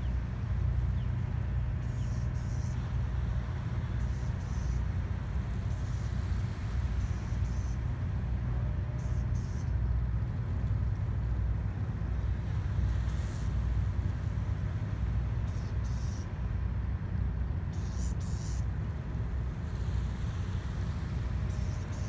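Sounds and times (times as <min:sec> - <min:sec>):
tugboat engine rumble: 0:00.0 - 0:22.0.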